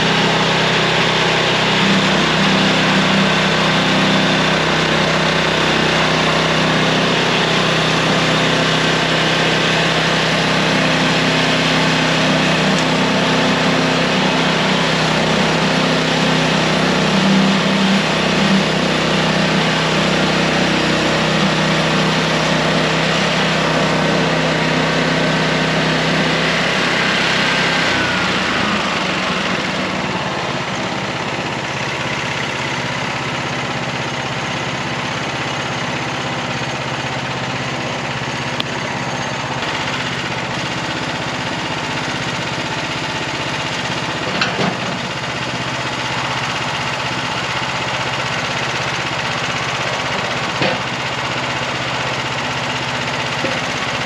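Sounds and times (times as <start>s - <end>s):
small gas engine running: 0.0s - 54.0s.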